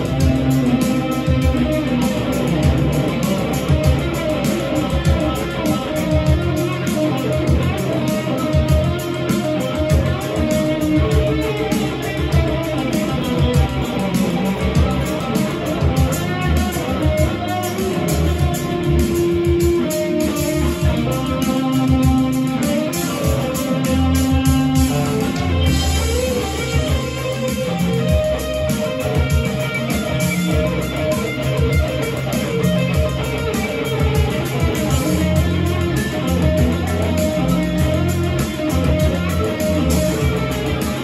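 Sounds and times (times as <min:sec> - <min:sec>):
electric guitar improvising: 0:00.0 - 0:41.0
steady beat: 0:00.0 - 0:41.0.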